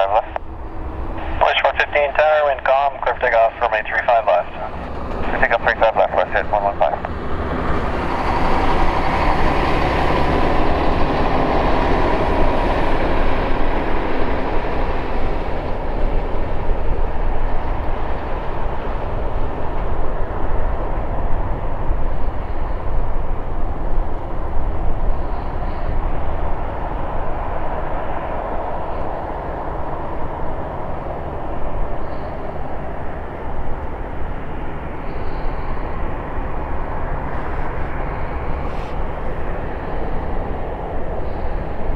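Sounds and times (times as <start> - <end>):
jet engines rumbling with whine: 0.0 - 41.9.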